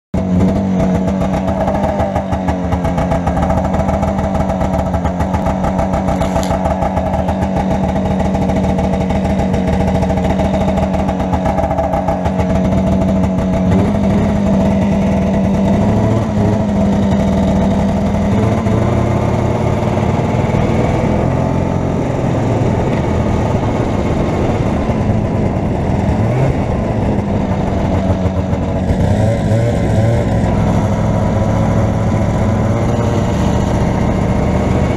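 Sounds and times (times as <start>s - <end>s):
snowmobile engine running: 0.2s - 34.9s.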